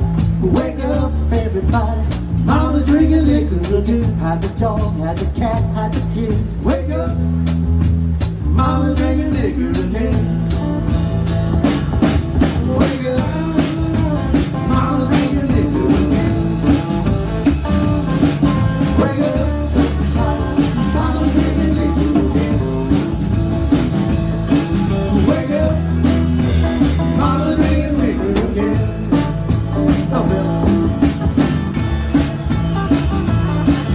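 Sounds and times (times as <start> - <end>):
drum kit beat: 0.0 - 33.9
live rock band playing: 0.0 - 33.9.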